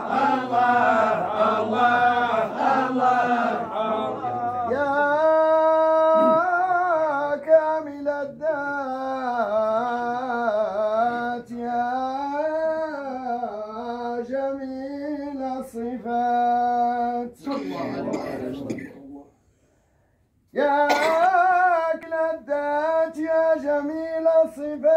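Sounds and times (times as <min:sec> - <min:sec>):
man chanting unaccompanied: 0:00.0 - 0:19.1, 0:20.5 - 0:24.9.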